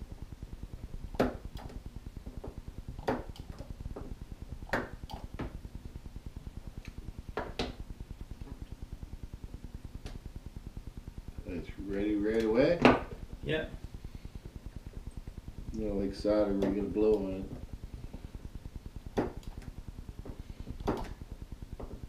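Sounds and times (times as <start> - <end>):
fast low pulsing hum: 0.0 - 22.0.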